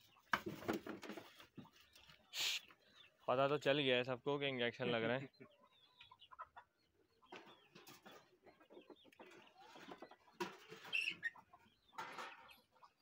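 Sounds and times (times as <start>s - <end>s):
chickens calling: 0.0s - 3.8s, 4.8s - 13.0s
birds calling: 0.0s - 13.0s.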